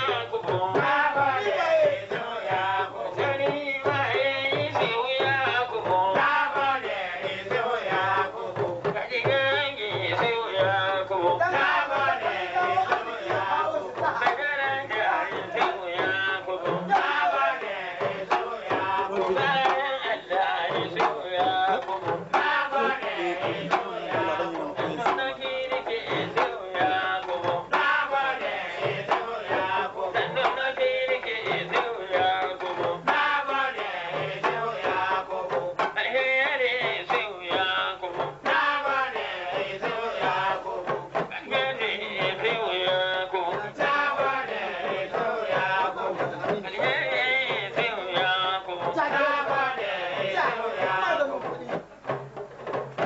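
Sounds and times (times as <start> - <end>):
man singing: 0.0 - 52.2
hand drums beating: 0.0 - 53.0.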